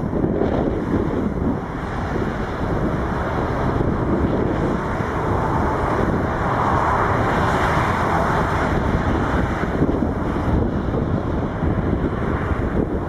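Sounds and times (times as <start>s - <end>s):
jet engines roaring: 0.0s - 13.0s
wind on microphone: 0.0s - 13.0s.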